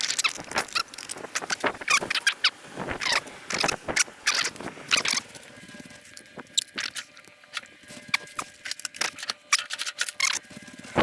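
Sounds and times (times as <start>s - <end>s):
tools and parts clicking and scraping: 0.0s - 11.0s.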